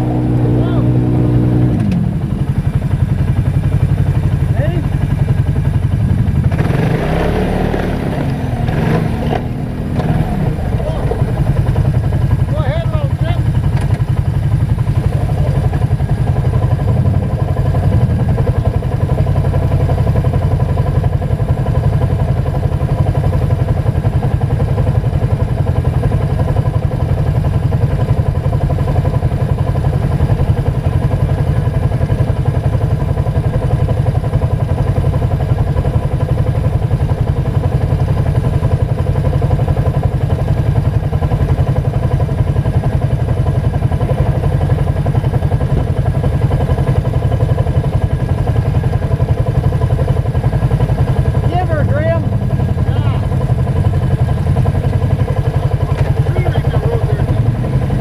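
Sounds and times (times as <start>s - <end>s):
quad engine running: 0.0s - 58.0s.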